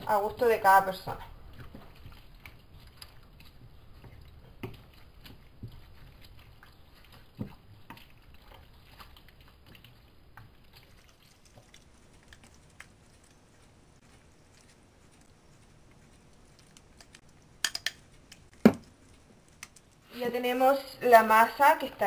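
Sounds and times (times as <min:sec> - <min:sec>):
spoon stirring wet filling: 0:00.0 - 0:20.0.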